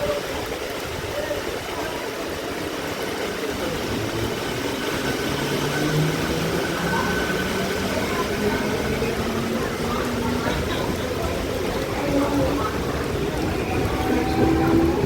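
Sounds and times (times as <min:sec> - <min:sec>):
train engine running: 0:02.3 - 0:15.0.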